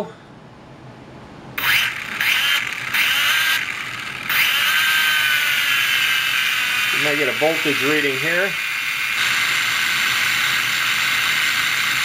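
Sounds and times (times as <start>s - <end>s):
quadcopter motors whining: 1.6s - 12.0s.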